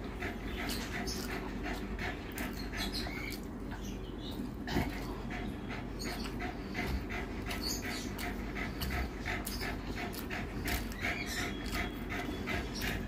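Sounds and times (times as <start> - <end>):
wet chewing and lip-smacking: 0.1 - 13.0.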